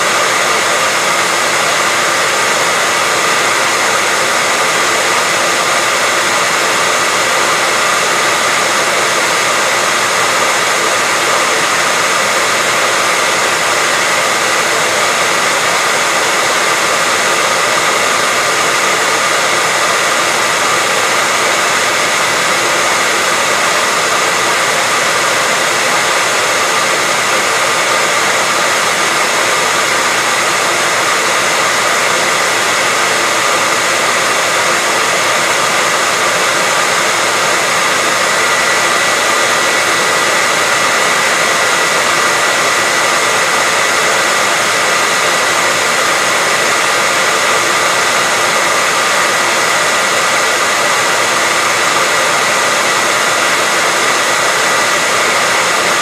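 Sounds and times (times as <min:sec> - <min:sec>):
hair dryer blowing air: 0:00.0 - 0:56.0.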